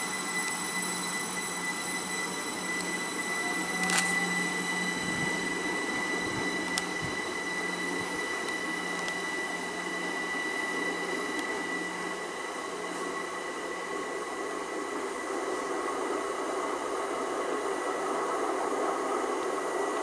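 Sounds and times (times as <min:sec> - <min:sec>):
high electrical whines: 0:00.0 - 0:20.0
low hum: 0:00.0 - 0:20.0.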